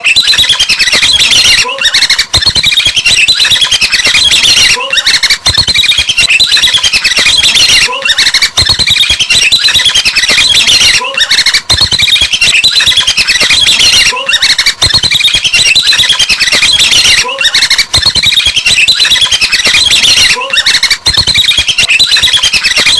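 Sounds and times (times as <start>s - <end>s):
birds chirping and squawking: 0.0s - 22.9s.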